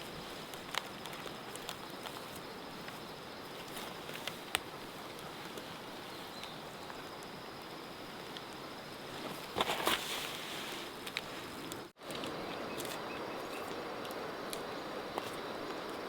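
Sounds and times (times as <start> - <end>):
faint insect drone: 0.0 - 16.0
steady hiss: 0.0 - 16.0.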